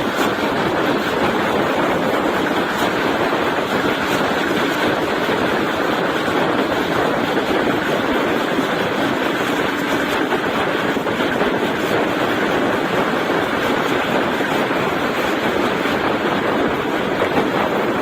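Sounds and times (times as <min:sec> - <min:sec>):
train rushing at speed: 0:00.0 - 0:18.0.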